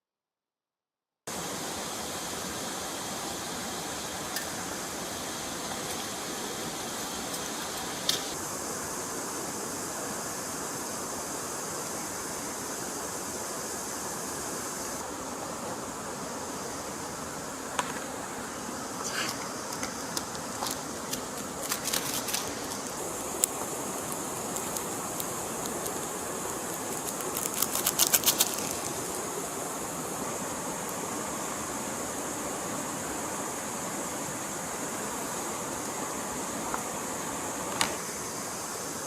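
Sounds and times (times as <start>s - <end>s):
flowing stream: 1.3s - 39.0s.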